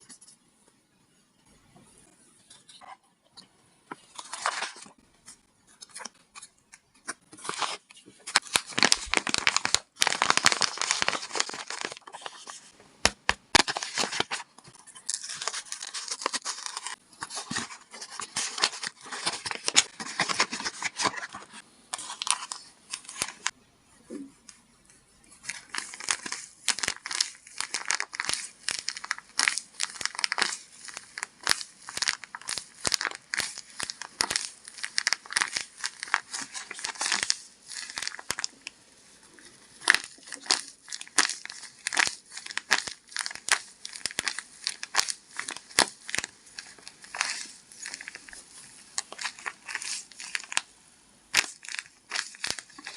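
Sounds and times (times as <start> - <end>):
paper crinkling and crumpling: 3.9 - 12.8, 13.6 - 23.6, 25.4 - 50.7, 51.3 - 52.9.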